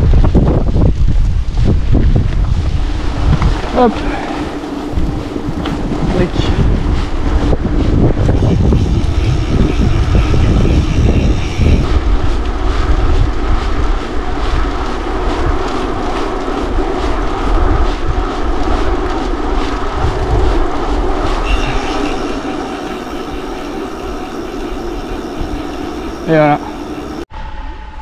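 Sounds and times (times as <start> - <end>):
bike rattling: 0.0 - 27.2
wind buffeting microphone: 0.0 - 28.0.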